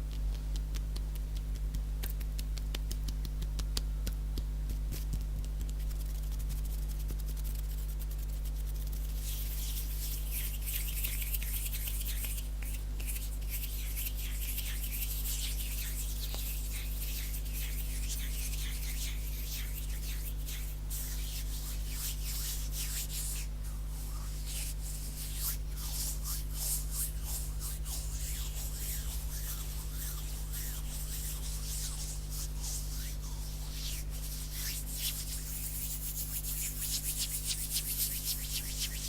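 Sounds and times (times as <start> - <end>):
hands rubbing together: 5.9 - 39.0.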